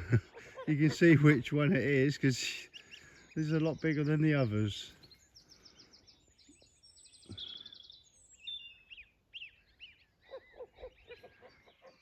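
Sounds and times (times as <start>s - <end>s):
faint bird chirps and trills: 0.0s - 12.0s.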